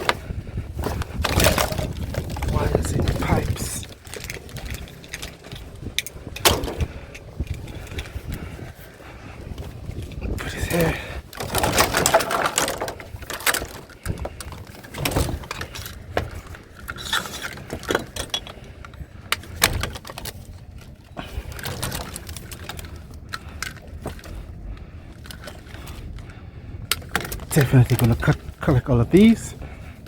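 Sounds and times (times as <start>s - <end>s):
scrap cables and pipes clattering: 0.0s - 8.9s, 9.5s - 30.0s.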